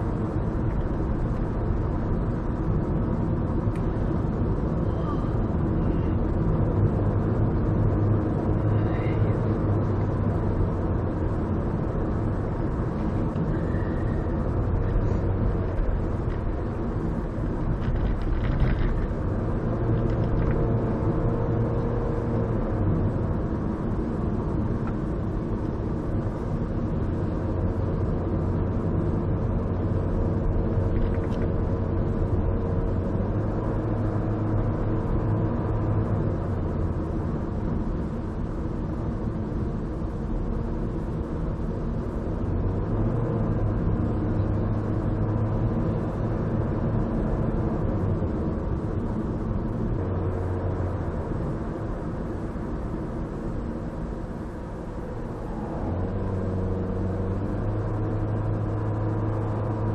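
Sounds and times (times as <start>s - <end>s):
car road noise inside cabin: 0.0s - 59.9s
engine hum: 0.0s - 59.9s.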